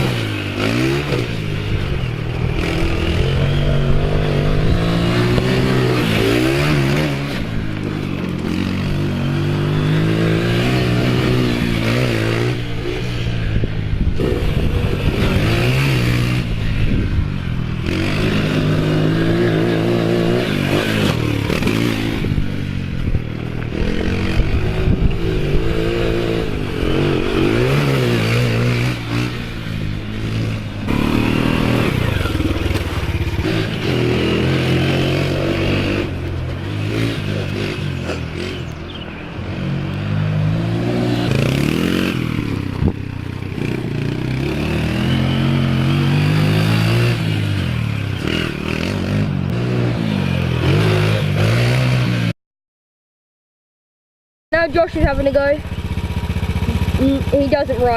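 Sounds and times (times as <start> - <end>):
quad bike engine revving: 0.0 - 52.3, 54.6 - 57.9.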